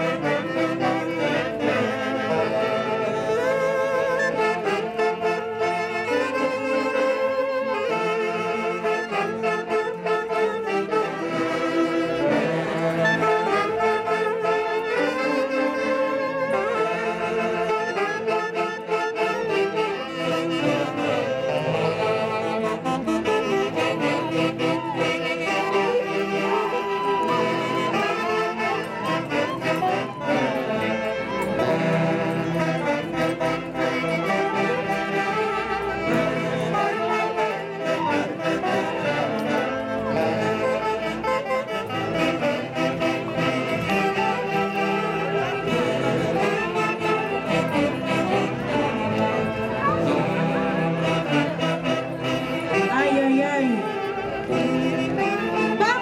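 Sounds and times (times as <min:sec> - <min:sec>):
band accompaniment: 0:00.0 - 0:56.0
saxophones playing melody: 0:00.0 - 0:56.0.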